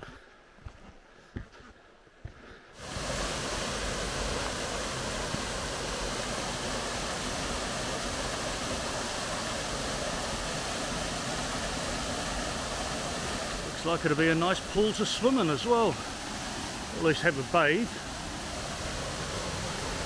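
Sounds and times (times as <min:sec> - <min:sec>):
waterfall splashing into pool: 0:02.8 - 0:20.0.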